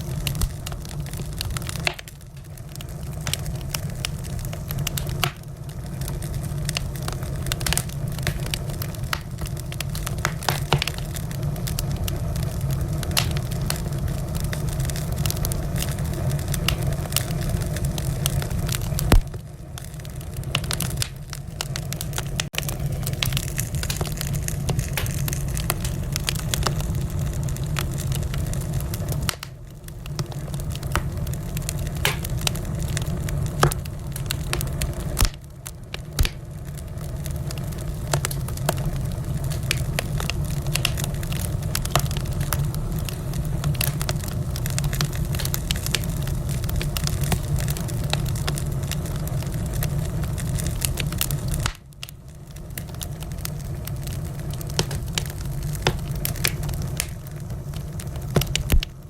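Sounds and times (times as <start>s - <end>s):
low rumble of fire: 0.0s - 59.0s
wood fire crackling and popping: 0.0s - 59.0s.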